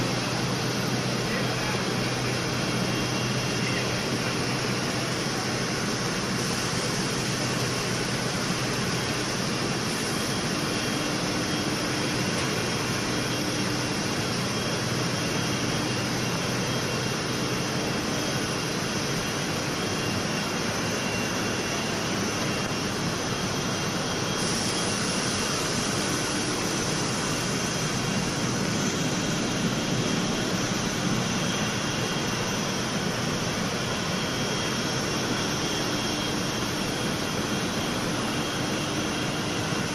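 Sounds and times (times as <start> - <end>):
faint machine whine: 0.0 - 39.9.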